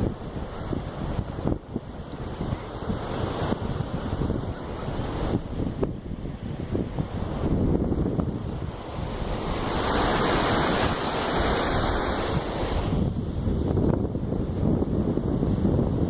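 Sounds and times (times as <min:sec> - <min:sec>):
surf washing in: 0:00.0 - 0:16.0
wind buffeting microphone: 0:00.0 - 0:16.0.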